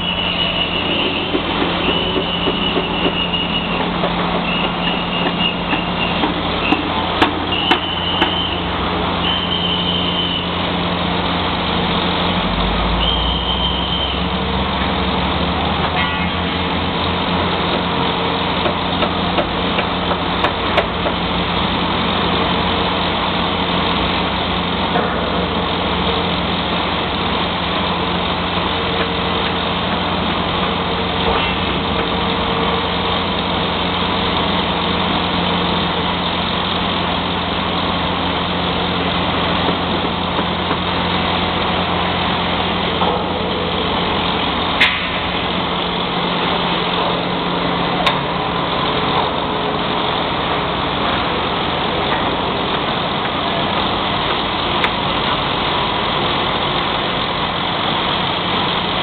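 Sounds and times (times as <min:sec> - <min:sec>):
heavy diesel crane engine running: 0:00.0 - 0:59.0.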